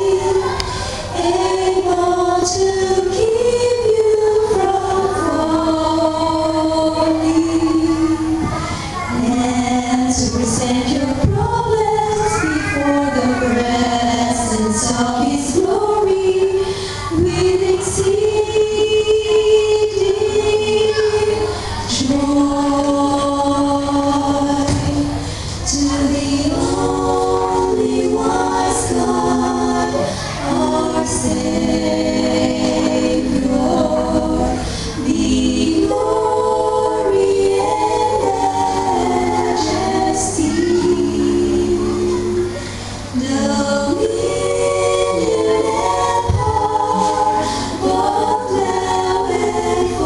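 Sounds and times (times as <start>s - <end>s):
female vocal trio singing: 0.0s - 50.0s.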